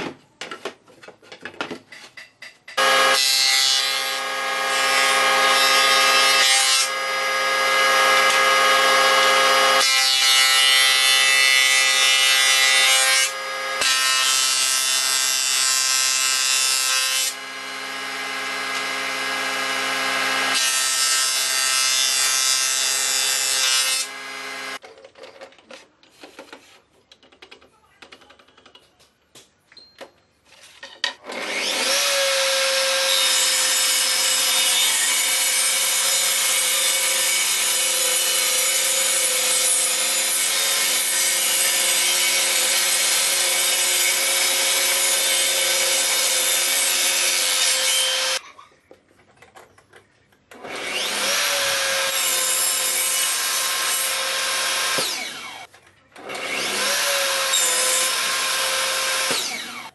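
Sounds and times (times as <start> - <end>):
table saw cutting wood: 2.8 - 24.8, 31.2 - 48.4, 50.6 - 59.9.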